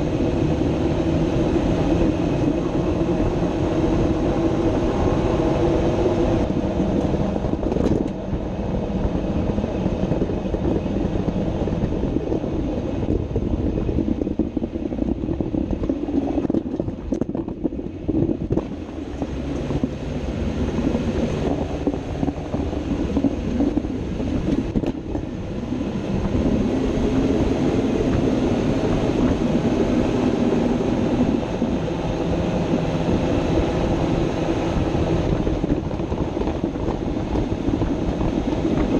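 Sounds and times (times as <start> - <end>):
vehicle drivetrain and road rumble: 0.0 - 38.9.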